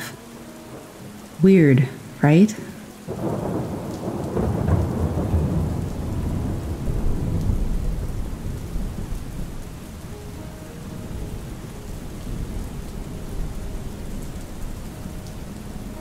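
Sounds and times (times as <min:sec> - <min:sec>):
steady rain: 0:00.0 - 0:16.0
thunder rumbling: 0:03.1 - 0:16.0.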